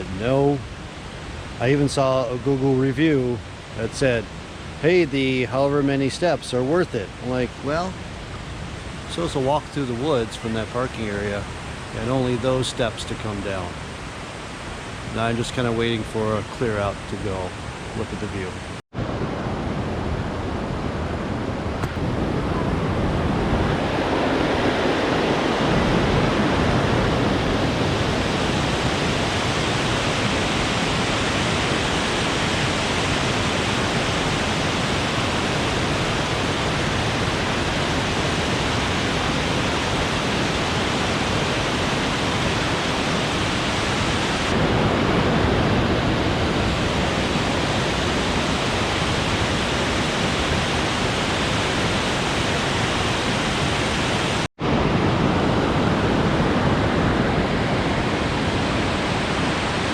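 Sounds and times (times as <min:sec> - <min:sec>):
waterfall rushing: 0:00.0 - 0:18.8, 0:21.8 - 0:59.9.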